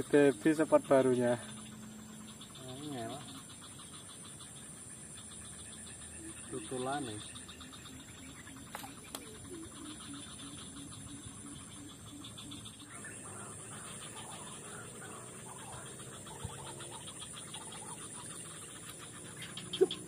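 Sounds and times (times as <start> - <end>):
bird calls: 0.0 - 20.0
insect chorus buzzing: 0.0 - 20.0.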